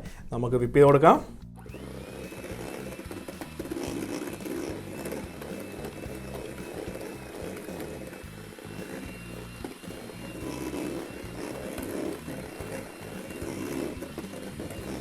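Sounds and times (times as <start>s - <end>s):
electric mixer running: 1.6s - 15.0s.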